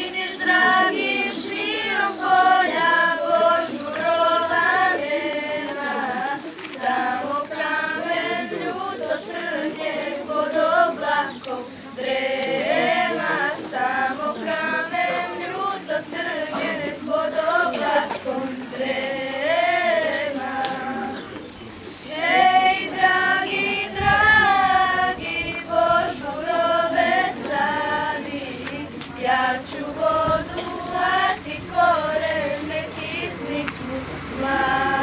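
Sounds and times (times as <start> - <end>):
children singing together: 0.0 - 21.4, 22.0 - 35.0.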